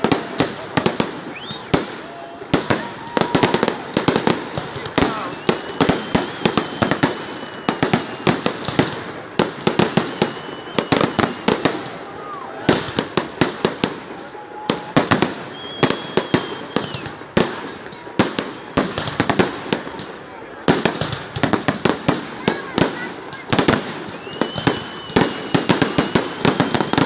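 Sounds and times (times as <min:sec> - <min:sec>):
fireworks bursting with sharp bangs: 0:00.0 - 0:27.0.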